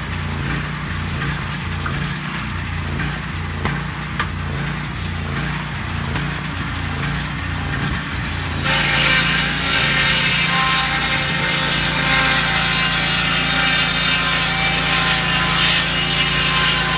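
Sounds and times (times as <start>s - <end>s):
circular saw blade cutting log: 0.0s - 16.9s
sawmill engine running: 0.0s - 16.9s.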